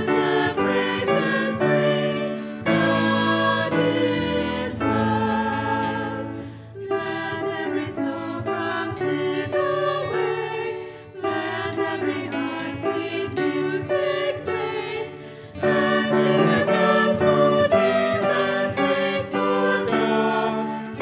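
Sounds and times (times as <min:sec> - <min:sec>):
piano accompaniment: 0:00.0 - 0:21.0
voices singing a hymn: 0:00.0 - 0:21.0.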